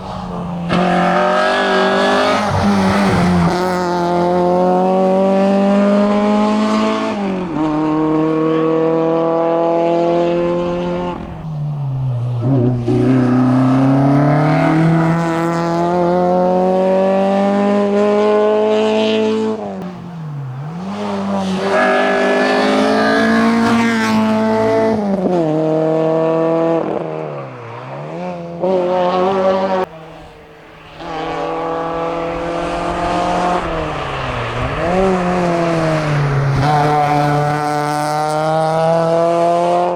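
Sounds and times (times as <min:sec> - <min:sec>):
car accelerating hard: 0:00.0 - 0:39.9
rally car engine revving: 0:00.0 - 0:39.9.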